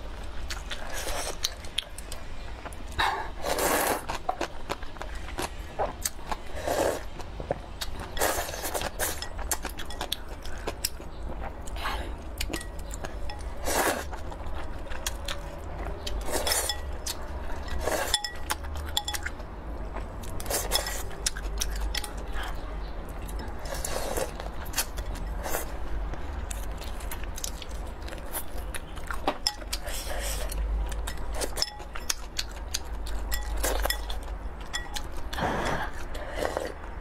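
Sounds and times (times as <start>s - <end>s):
chewing: 0.4s - 36.9s.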